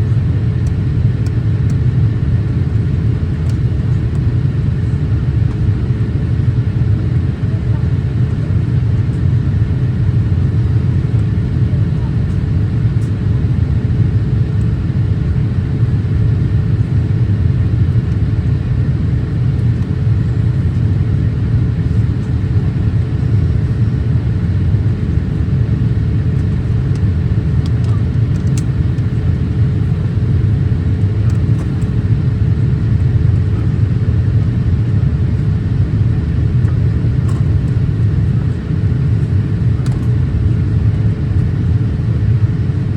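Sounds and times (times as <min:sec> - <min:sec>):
aircraft cabin drone: 0:00.0 - 0:42.9
faint steady hum: 0:00.0 - 0:42.9.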